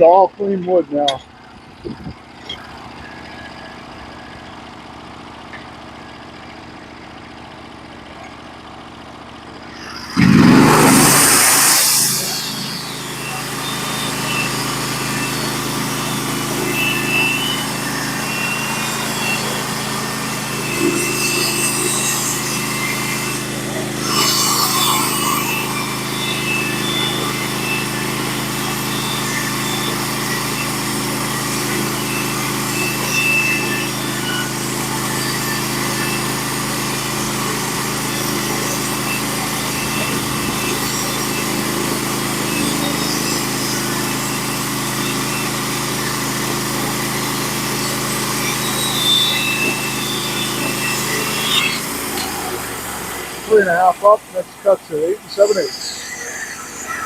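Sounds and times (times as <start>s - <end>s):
bandsaw mill cutting log: 0.0s - 57.0s.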